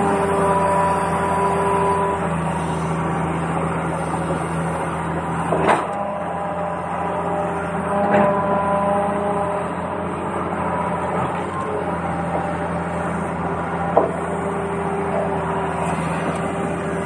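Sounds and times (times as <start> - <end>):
small motor whirring: 0.0 - 17.0.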